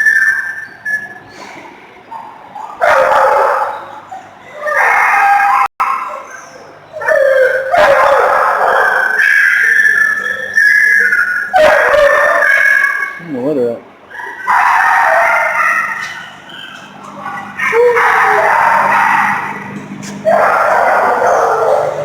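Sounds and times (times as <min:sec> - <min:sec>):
dogs barking: 0:02.0 - 0:13.2, 0:14.1 - 0:22.0.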